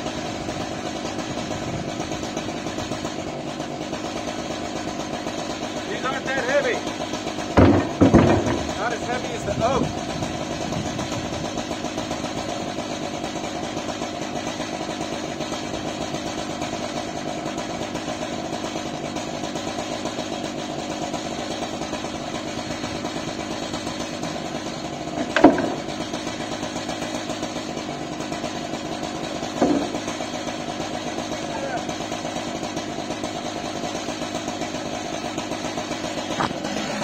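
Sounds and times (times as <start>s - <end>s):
chainsaw idling: 0.0s - 37.0s.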